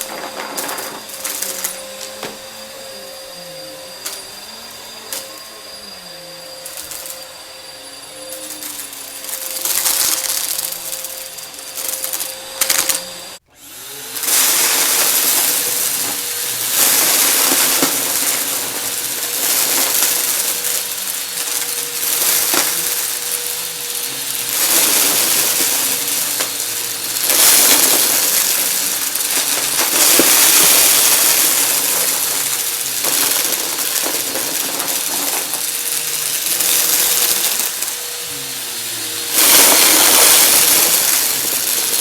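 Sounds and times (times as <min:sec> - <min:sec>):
confetti rattling into vacuum: 0:00.0 - 0:02.4, 0:08.3 - 0:13.0, 0:14.1 - 0:42.0
vacuum cleaner running: 0:00.0 - 0:42.0.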